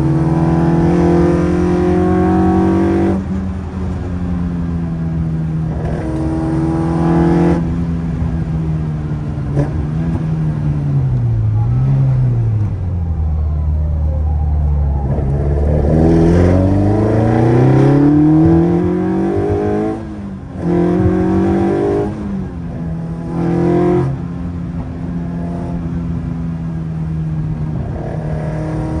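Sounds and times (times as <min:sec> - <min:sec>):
car engine heard from cabin: 0:00.0 - 0:29.0.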